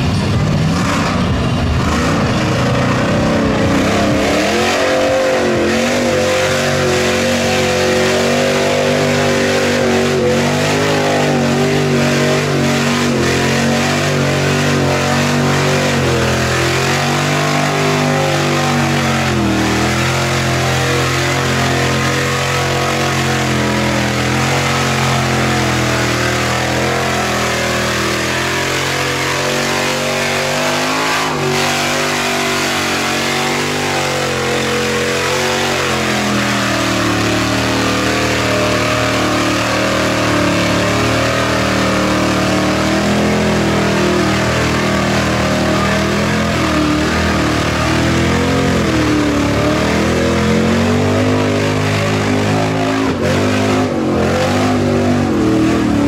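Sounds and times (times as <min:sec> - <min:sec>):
truck engine at high revs: 0:00.0 - 0:56.0.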